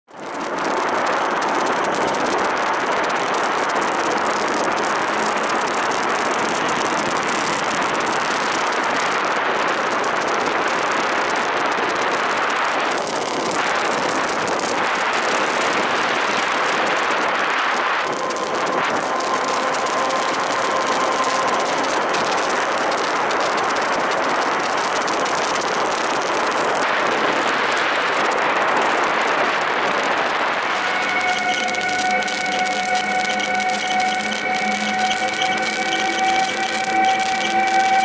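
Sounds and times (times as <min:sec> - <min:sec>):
electric train rushing at speed: 0:00.3 - 0:38.0.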